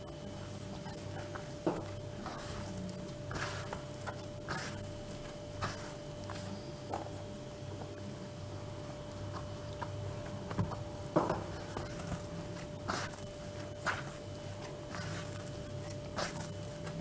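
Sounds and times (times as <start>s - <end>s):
dough squishing and slapping: 0.0s - 17.0s
faint steady hum: 0.0s - 17.0s.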